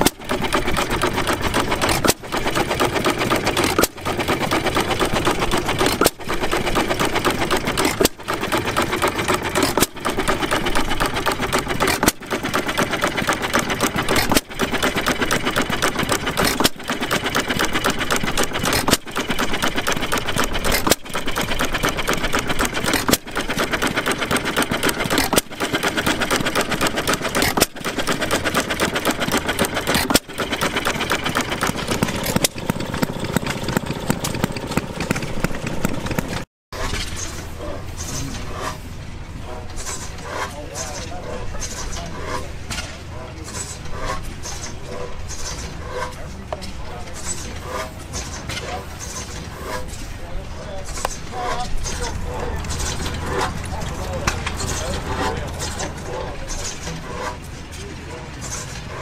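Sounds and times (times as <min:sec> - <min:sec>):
stationary gas engine clattering: 0:00.0 - 0:59.0.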